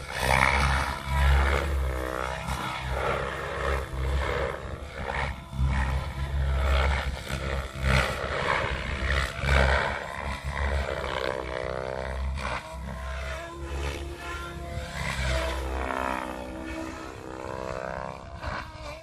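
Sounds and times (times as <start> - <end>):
electric motor whining: 0.0 - 19.0
helicopter rotor blades whooshing: 0.0 - 19.0.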